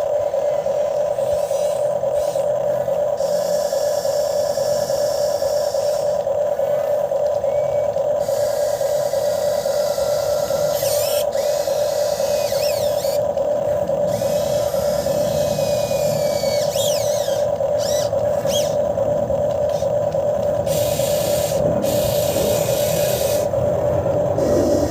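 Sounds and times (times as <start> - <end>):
higher whines gliding: 0.0 - 24.9
hydraulic pump motor humming: 0.0 - 24.9.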